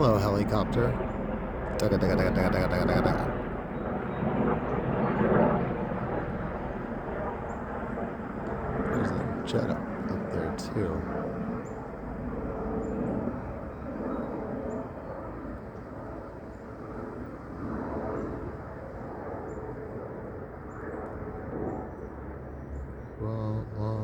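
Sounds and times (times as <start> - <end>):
aircraft flying overhead: 0.0 - 24.0.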